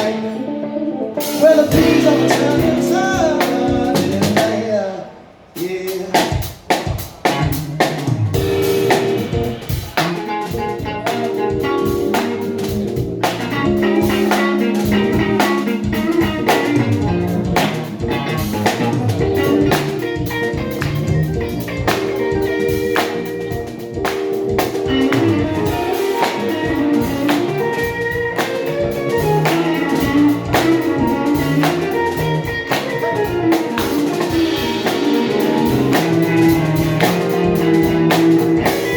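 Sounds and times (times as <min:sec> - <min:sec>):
drum kit beat: 0:00.0 - 0:00.4, 0:01.1 - 0:04.8, 0:05.6 - 0:38.9
guitar: 0:00.0 - 0:38.9.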